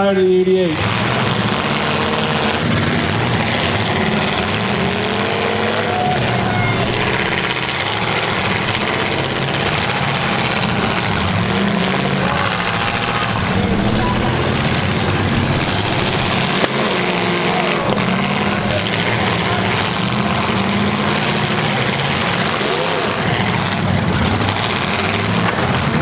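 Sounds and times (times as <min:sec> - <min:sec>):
car engines revving together: 0:00.0 - 0:26.0.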